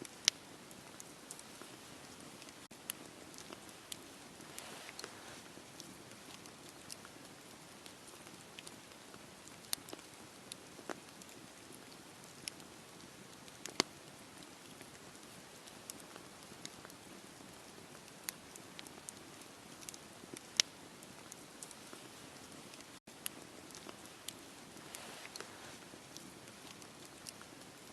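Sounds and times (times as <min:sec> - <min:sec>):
fire crackling and popping: 0:00.0 - 0:27.9
wood fire hissing: 0:00.0 - 0:27.9.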